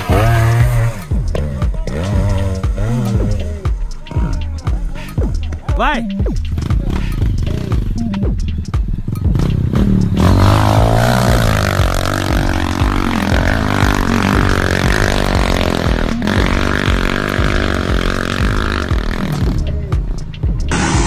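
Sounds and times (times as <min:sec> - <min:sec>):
background music with beat: 0:00.0 - 0:21.0
motorbike engine revving: 0:00.0 - 0:21.0.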